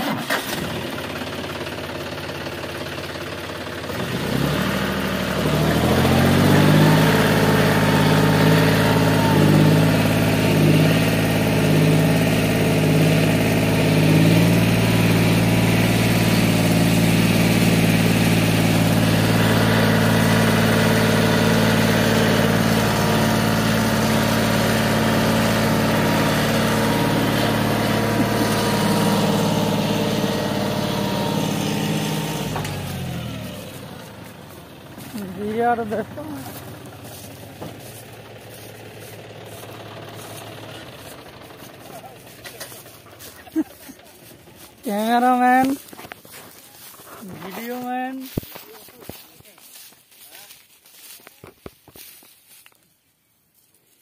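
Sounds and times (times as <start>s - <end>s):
tractor diesel engine revving: 0.0s - 50.3s.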